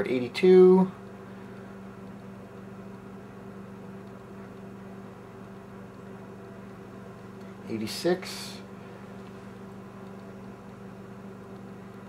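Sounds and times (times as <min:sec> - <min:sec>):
toaster oven electrical buzz: 0:00.0 - 0:12.0.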